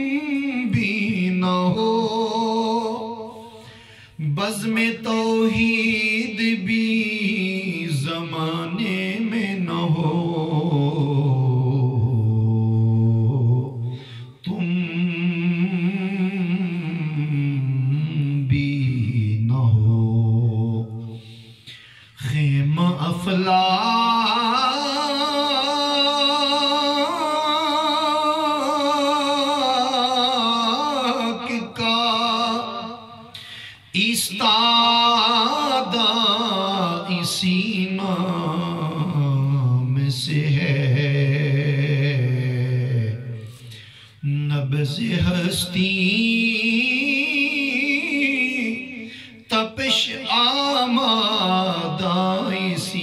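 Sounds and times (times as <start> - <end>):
man chanting unaccompanied: 0.0 - 3.6, 4.2 - 21.5, 22.2 - 33.3, 33.9 - 53.0
man singing into a microphone: 0.0 - 53.0.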